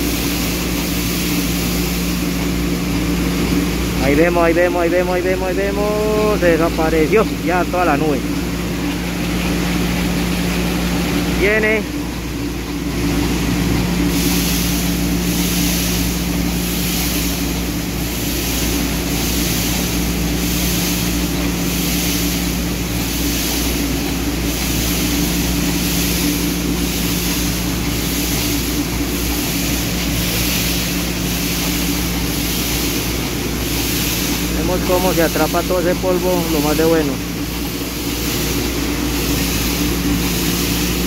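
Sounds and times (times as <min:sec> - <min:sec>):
machine hum: 0:00.0 - 0:41.0
pulsing hiss: 0:00.0 - 0:41.0.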